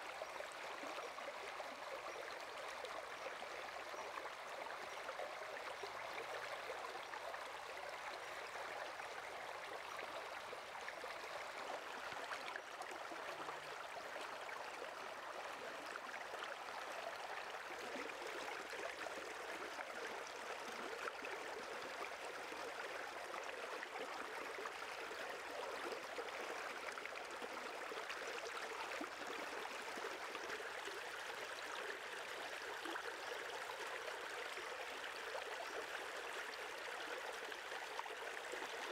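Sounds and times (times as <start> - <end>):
shallow stream running: 0.0 - 38.9.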